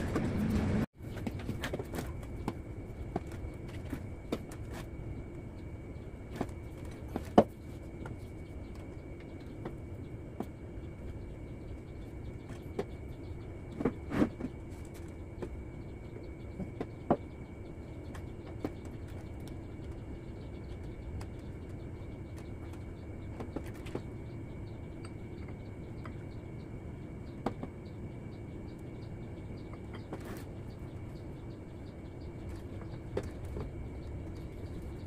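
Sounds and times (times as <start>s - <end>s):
workshop hum: 0.0s - 35.0s.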